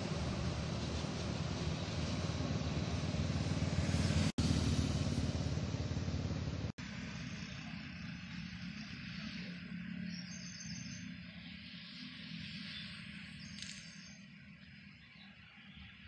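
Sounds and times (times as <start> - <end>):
motorcycle approaching: 0.0 - 14.8
highway traffic passing: 0.0 - 16.0.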